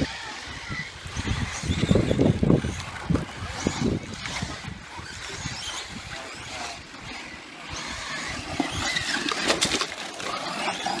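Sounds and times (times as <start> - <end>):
radio-controlled car motors: 0.0 - 11.0
tyres on loose dirt and gravel: 0.0 - 11.0.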